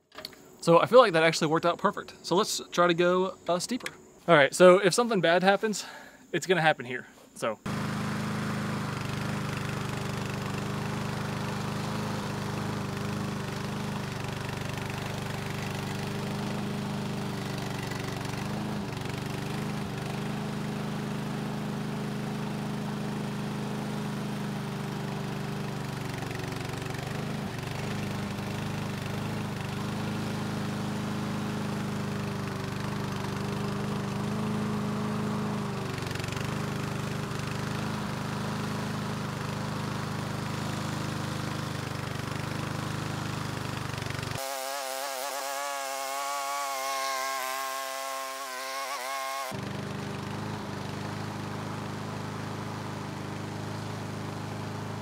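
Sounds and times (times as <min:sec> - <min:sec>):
lawn mower engine running: 0:07.5 - 0:55.0.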